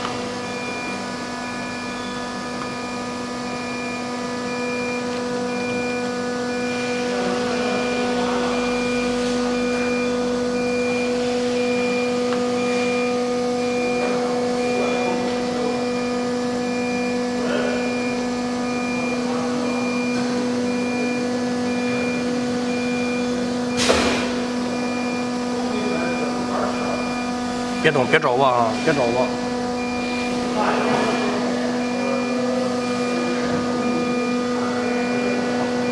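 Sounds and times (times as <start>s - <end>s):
cnc router machine hum: 0.0s - 35.9s
faint beeping tone: 0.4s - 35.9s.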